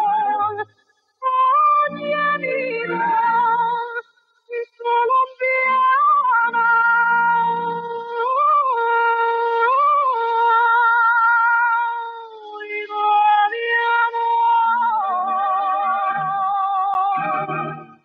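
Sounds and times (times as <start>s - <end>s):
woman singing wordless notes: 1.2s - 18.0s.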